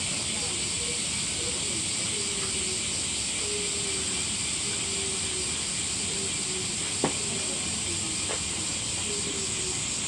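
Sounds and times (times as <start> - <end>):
cicada chorus drone: 0.0 - 10.0.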